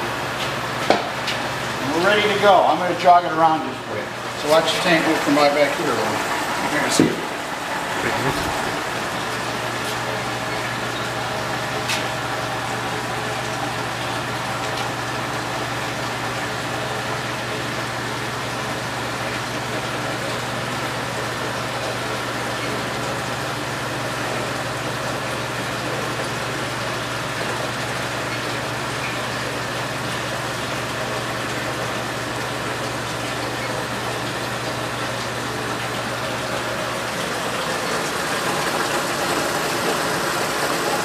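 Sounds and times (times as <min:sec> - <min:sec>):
machine hum and hiss: 0:00.0 - 0:41.0.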